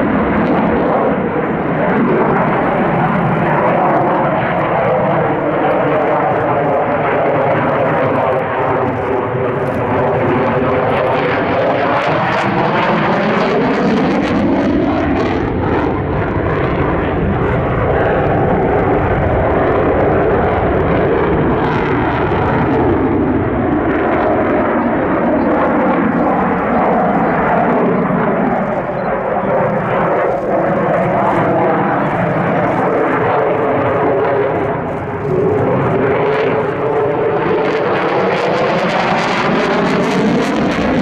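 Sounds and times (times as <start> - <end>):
fighter jet roar: 0.0 - 41.0.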